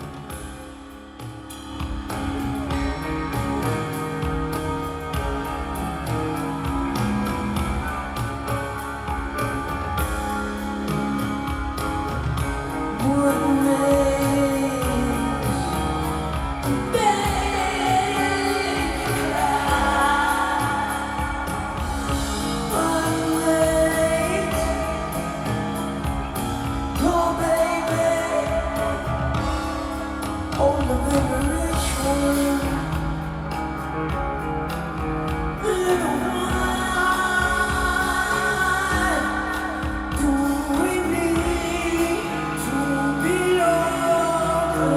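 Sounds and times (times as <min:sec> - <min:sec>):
rock band playing live: 0:00.0 - 0:44.9
person singing: 0:02.0 - 0:44.9.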